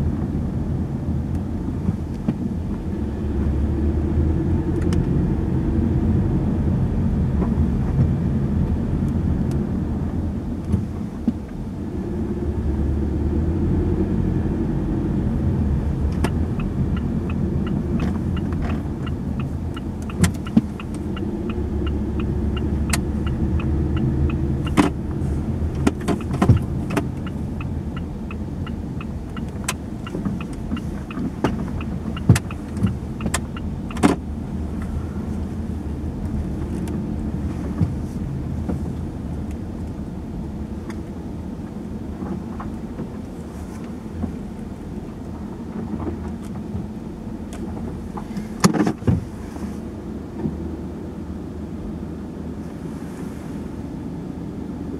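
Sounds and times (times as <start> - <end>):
car engine and tyre rumble: 0.0 - 54.9
turn signal ticking: 0.1 - 49.2.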